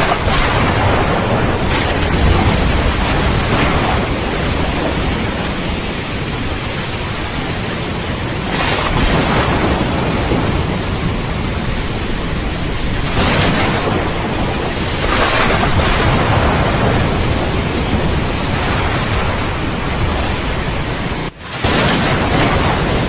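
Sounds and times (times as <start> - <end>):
heavy rain: 0.0 - 23.0
low rumble of thunder: 0.0 - 23.0.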